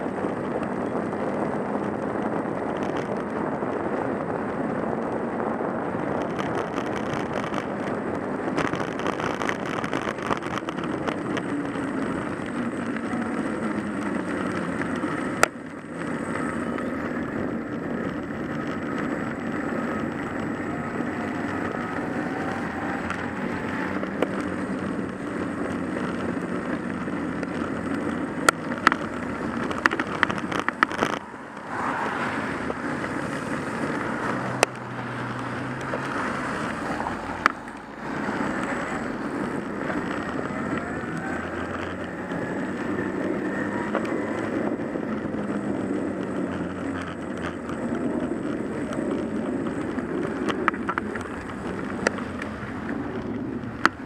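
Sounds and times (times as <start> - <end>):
car engine while driving: 0.0 - 54.0
tyre noise: 0.0 - 54.0.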